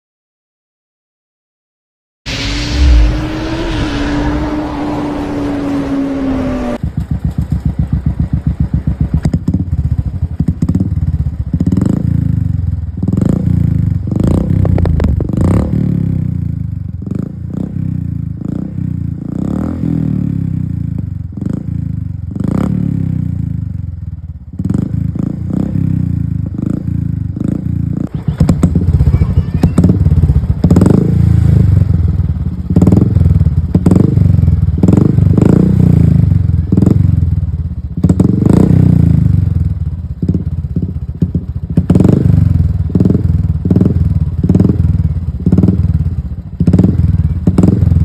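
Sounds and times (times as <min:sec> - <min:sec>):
motorcycle engine idling and revving: 0:02.3 - 0:48.0.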